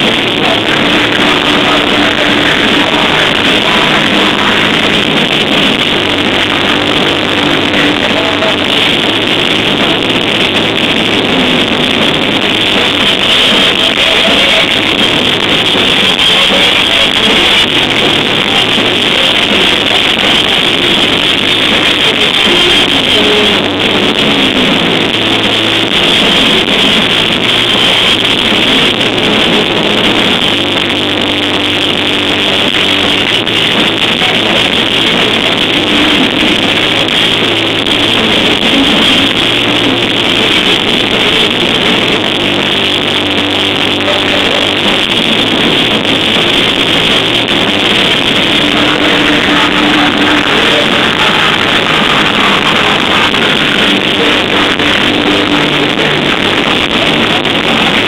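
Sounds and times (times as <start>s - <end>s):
bass: 0.0s - 58.0s
distorted electric guitars: 0.0s - 58.0s
drums: 0.0s - 58.0s.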